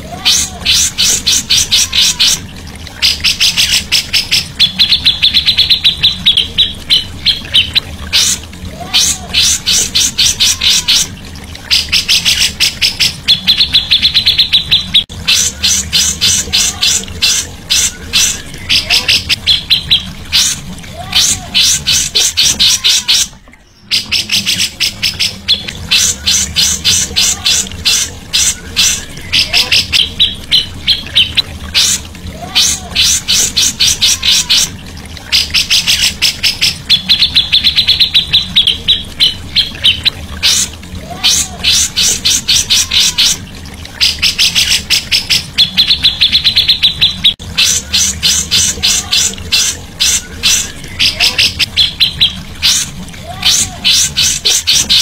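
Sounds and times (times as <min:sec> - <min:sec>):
bird ticking notes: 0:00.2 - 0:53.0.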